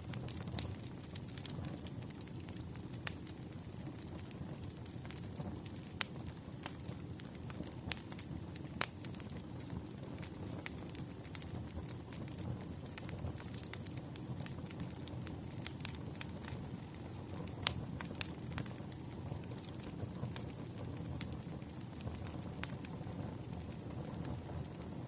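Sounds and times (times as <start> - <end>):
logs crackling and popping: 0.0 - 25.0
low rush of flame: 0.0 - 25.0.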